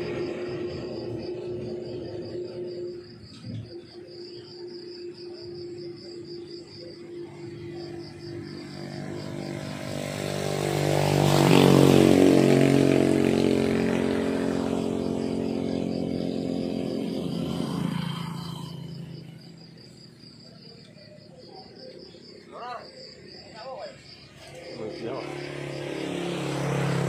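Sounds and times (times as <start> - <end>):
crickets chirping: 0.0 - 27.0
vehicle engine passing by: 0.0 - 27.0.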